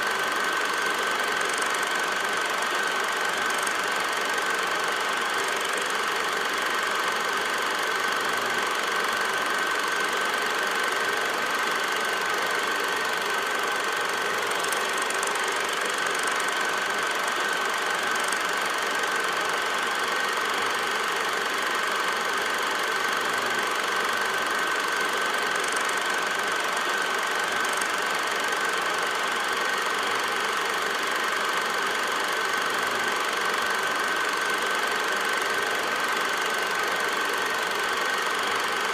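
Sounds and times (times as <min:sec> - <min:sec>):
film projector whirring and clattering: 0:00.0 - 0:38.9.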